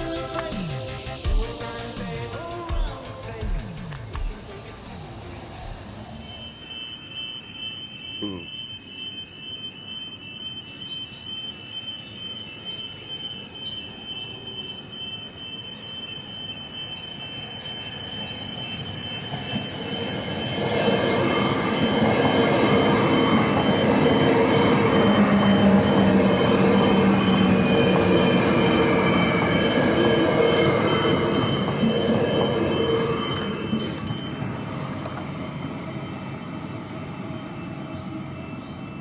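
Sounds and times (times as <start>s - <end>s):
train passing: 0.0s - 8.0s, 12.8s - 39.0s
rail noise: 0.0s - 10.3s, 11.5s - 39.0s.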